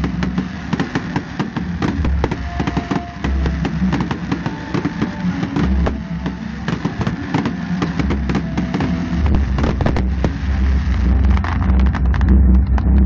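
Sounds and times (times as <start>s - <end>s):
low rumble: 0.0s - 3.9s, 5.6s - 13.0s
fireworks cracking and popping: 0.0s - 13.0s.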